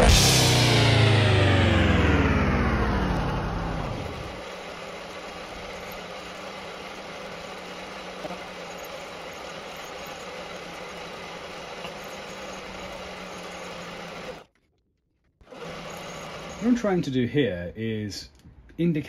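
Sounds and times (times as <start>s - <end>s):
milling machine humming: 0.0s - 14.5s, 15.5s - 17.1s.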